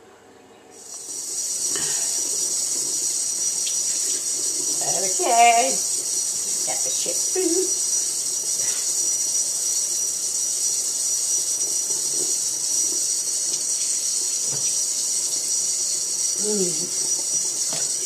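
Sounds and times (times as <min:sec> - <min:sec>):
faucet spray running: 0:00.8 - 0:18.0.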